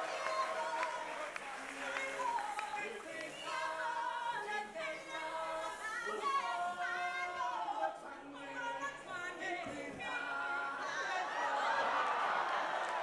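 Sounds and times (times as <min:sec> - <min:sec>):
group singing in harmony: 0:00.0 - 0:13.0.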